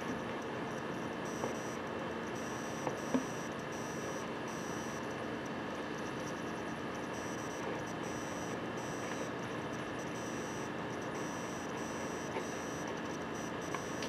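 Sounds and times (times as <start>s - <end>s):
power supply buzzing whine: 0.0s - 14.0s.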